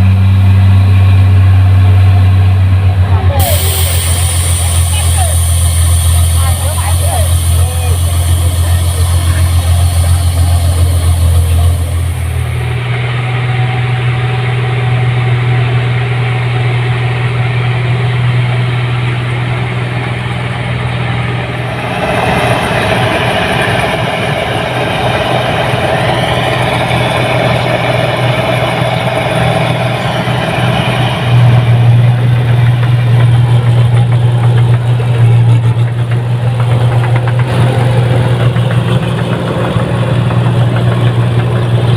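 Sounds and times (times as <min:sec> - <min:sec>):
high whine: 0:00.0 - 0:16.6, 0:19.2 - 0:41.9
harvester engine humming: 0:00.0 - 0:41.9.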